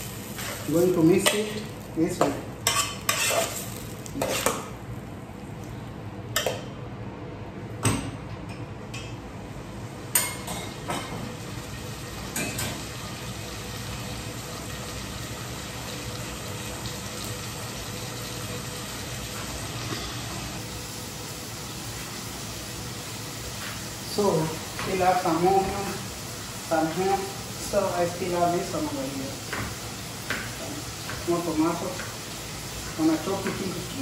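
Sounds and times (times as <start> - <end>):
vegetables sizzling in a pan: 0.0 - 5.2, 10.0 - 34.0.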